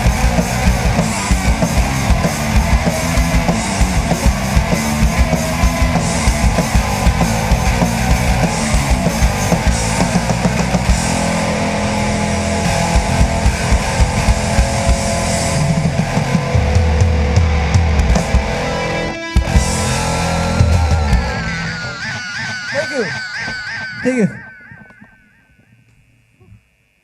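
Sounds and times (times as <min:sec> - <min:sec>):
drum kit beating: 0:00.0 - 0:25.2
distorted electric guitar: 0:00.0 - 0:27.0.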